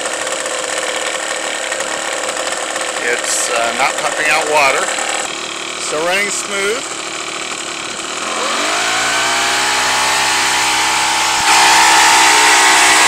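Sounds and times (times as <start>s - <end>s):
outboard motor revving: 0.0s - 13.0s.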